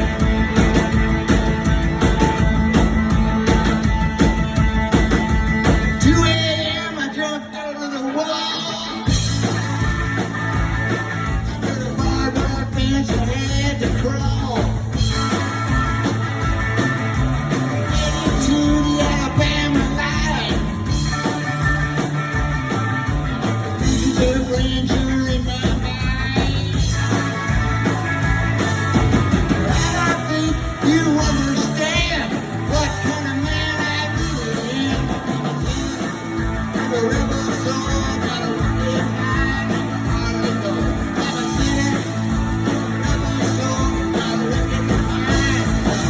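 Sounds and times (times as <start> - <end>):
electric guitar: 0.0 - 46.0
rock band playing: 0.0 - 46.0.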